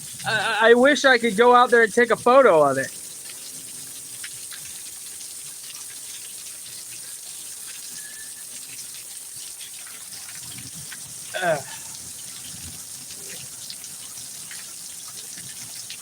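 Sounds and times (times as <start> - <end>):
close drips and splashes: 0.0 - 16.0
heavy rain pouring: 0.0 - 16.0.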